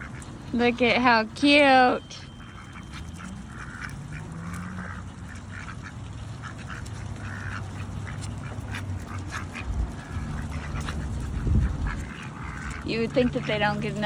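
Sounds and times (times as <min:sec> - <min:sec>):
ducks quacking: 0:00.0 - 0:14.0
low steady hum: 0:00.0 - 0:14.0.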